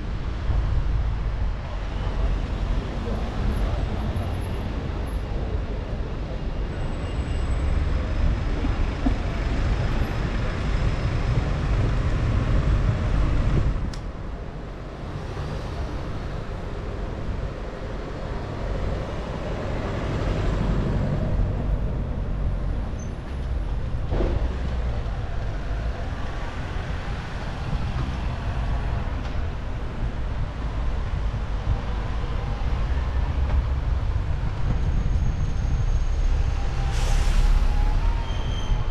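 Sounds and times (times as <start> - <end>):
bus passing: 0.0 - 38.9
road traffic passing: 0.0 - 38.9.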